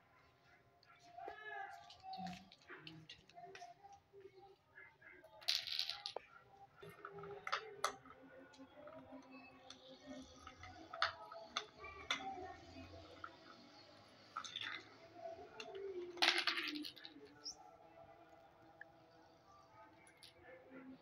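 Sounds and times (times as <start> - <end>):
small ball clicking on stone floor: 1.8 - 4.4, 5.2 - 21.0.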